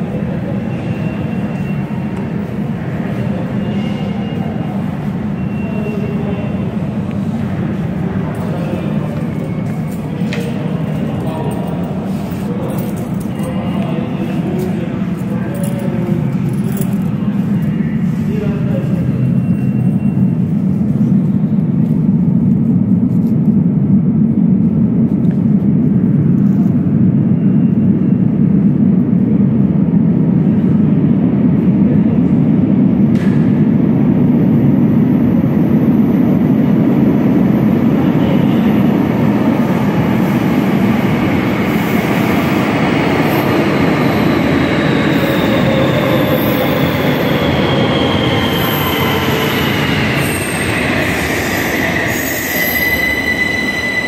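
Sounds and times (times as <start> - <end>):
falling whines of slowing train: 0.0 - 54.0
train rumbling into station: 0.0 - 54.0.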